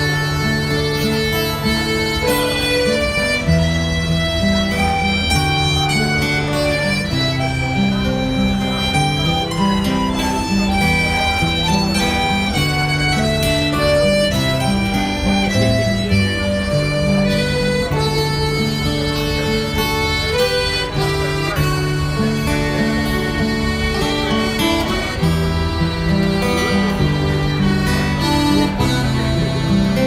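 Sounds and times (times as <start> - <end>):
live band playing folk music: 0.0 - 30.0
plucked strings: 0.0 - 30.0.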